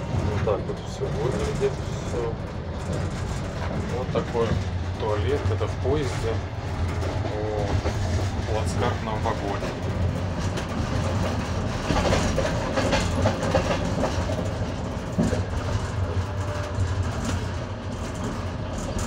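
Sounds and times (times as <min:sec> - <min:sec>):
clickety-clack of train wheels: 0:00.0 - 0:19.0
train wheels rumbling on rails: 0:00.0 - 0:19.0.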